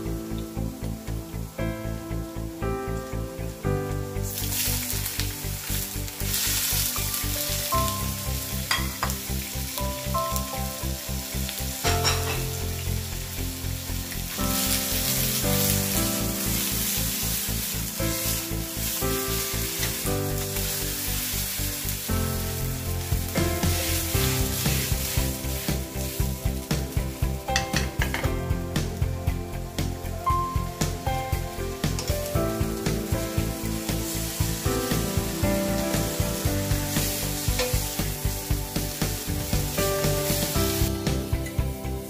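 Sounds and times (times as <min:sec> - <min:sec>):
background music with steady beat: 0:00.0 - 0:42.0
vegetables sizzling in a wok: 0:00.0 - 0:42.0.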